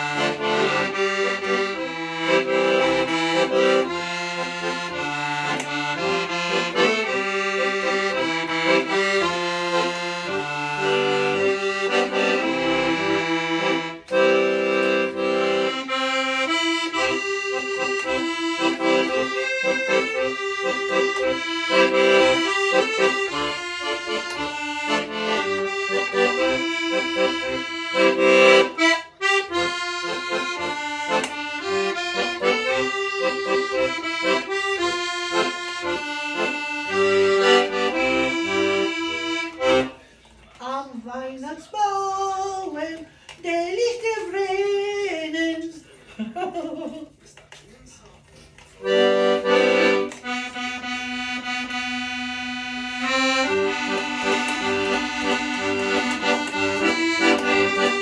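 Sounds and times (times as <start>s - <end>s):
accordion playing a tune: 0.0s - 40.3s, 48.6s - 58.0s.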